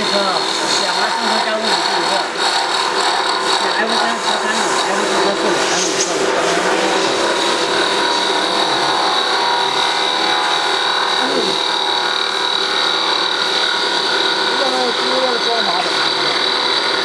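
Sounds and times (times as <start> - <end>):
wood lathe running with high whine: 0.0 - 17.0.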